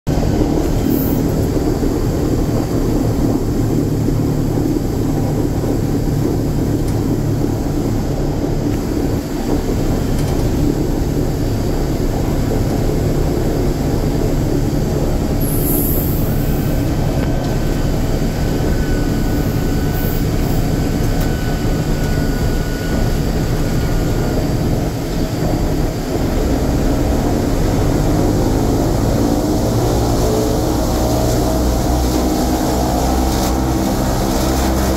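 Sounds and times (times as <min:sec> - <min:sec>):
aircraft engines droning: 0:00.1 - 0:34.9.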